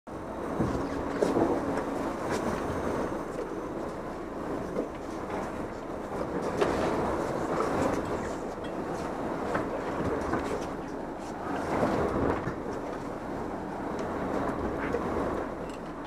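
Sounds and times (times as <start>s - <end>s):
boat engine water and wind rush: 0.1s - 16.0s.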